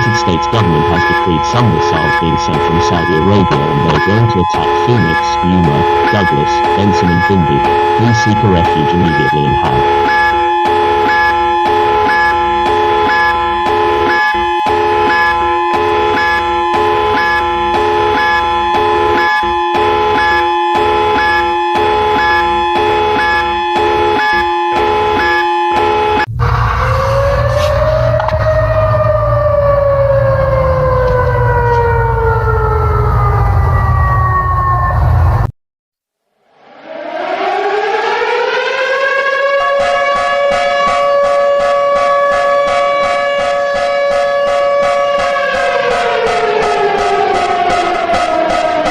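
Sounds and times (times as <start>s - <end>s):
electronic alarm tones and beeps: 0.0s - 31.7s, 36.6s - 48.9s
siren rising in pitch: 0.0s - 35.5s, 36.4s - 48.9s.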